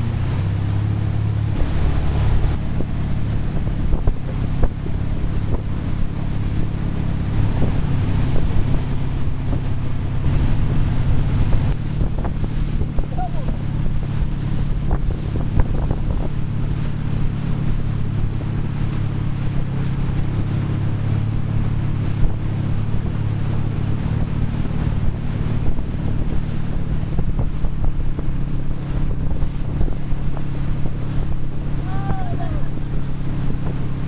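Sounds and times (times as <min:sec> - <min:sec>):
motorboat engine running: 0:00.0 - 0:34.0
rush of churning wake: 0:00.0 - 0:34.0
wind buffeting microphone: 0:00.0 - 0:34.0.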